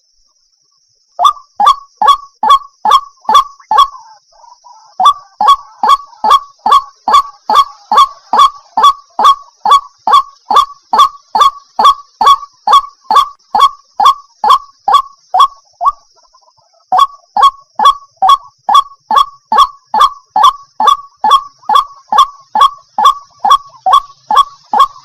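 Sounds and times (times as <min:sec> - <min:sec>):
water hen harsh honking calls: 0:01.2 - 0:16.0, 0:17.0 - 0:25.0.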